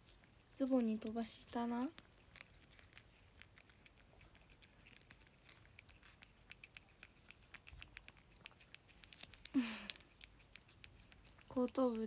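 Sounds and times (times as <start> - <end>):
cat eating: 0.0 - 12.0.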